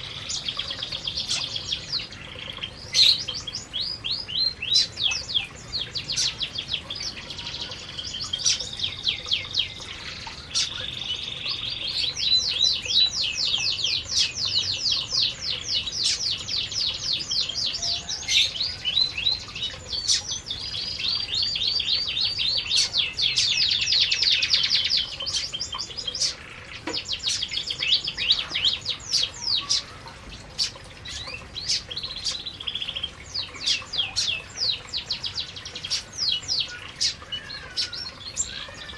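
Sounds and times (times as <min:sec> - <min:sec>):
canaries trilling: 0:00.0 - 0:38.9.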